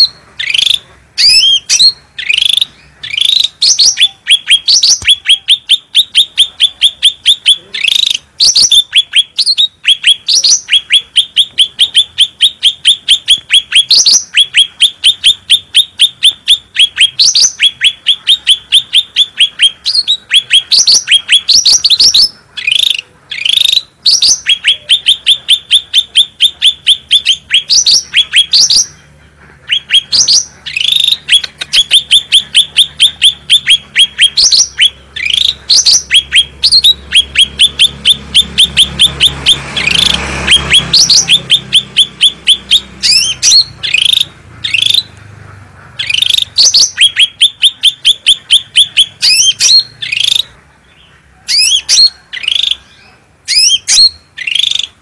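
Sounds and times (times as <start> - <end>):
songbird chattering song: 0.0 - 55.0.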